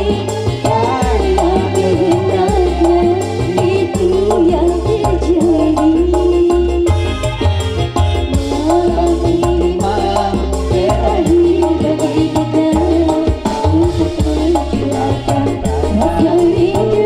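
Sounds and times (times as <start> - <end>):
electronic keyboard band music: 0.0 - 17.0.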